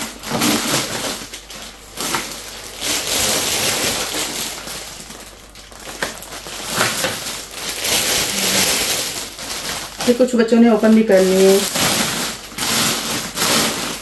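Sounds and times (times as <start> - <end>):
plastic crisp packets crinkling: 0.0 - 14.0.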